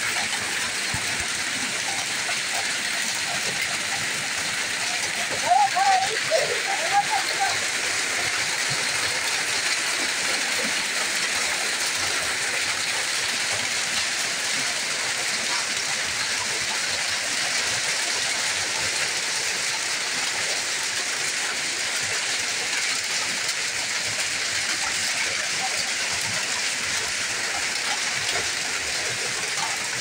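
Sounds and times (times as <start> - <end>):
hailstones striking wet ground: 0.0 - 30.0
rain hissing: 0.0 - 30.0.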